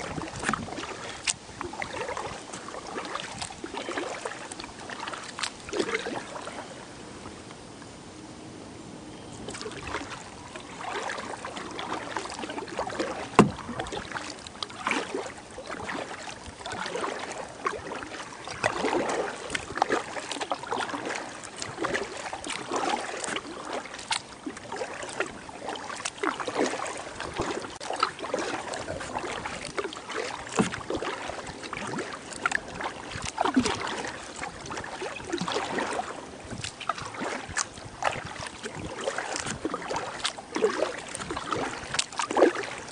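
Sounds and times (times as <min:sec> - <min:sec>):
water dripping off paddle: 0:00.0 - 0:06.6, 0:09.4 - 0:42.9
kayak paddle splashing: 0:00.0 - 0:42.9.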